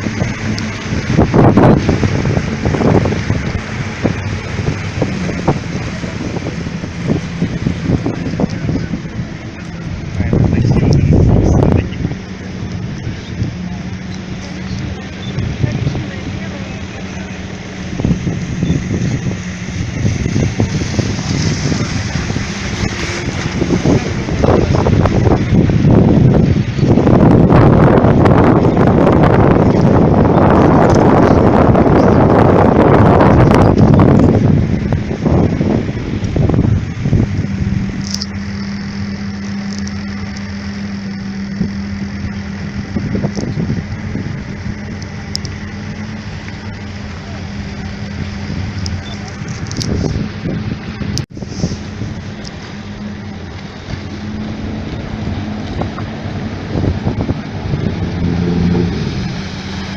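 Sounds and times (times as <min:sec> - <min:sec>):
motorboat engine humming: 0:00.0 - 0:59.9
wind buffeting microphone: 0:00.0 - 0:59.9.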